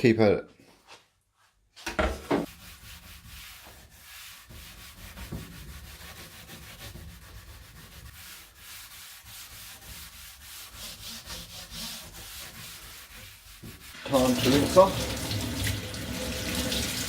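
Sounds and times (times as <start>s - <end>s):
scouring pad scrubbing plastic: 2.4s - 17.0s.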